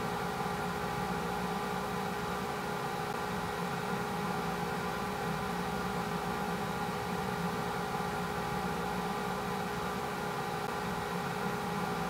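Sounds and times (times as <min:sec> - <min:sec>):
machine hum with steady tones: 0:00.0 - 0:12.0.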